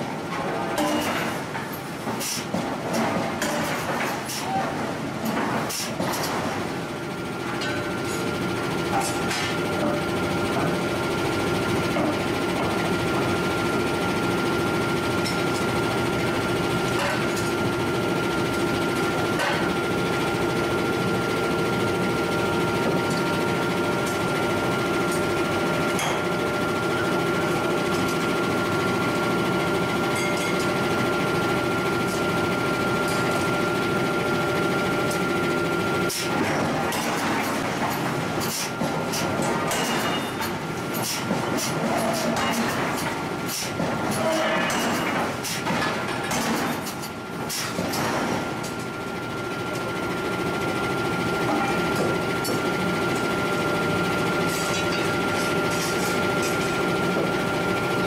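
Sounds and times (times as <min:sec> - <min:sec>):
machinery droning with high whine: 0:02.9 - 0:58.0.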